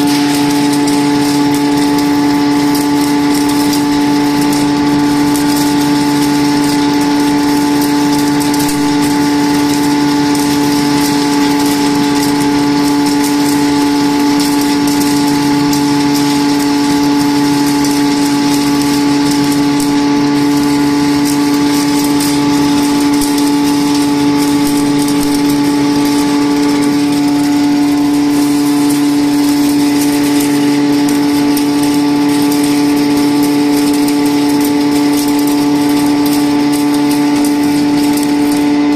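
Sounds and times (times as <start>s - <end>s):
grinding hiss: 0.0s - 38.9s
grinding mill motor hum: 0.0s - 38.9s.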